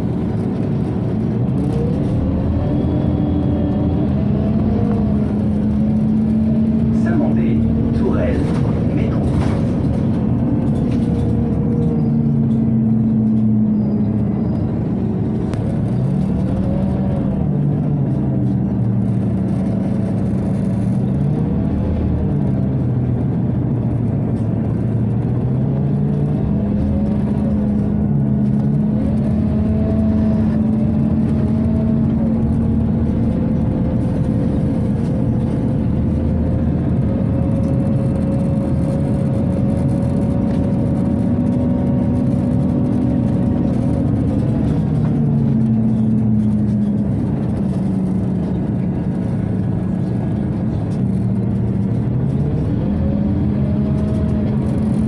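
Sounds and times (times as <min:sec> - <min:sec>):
bus engine revving: 0:00.0 - 0:55.0.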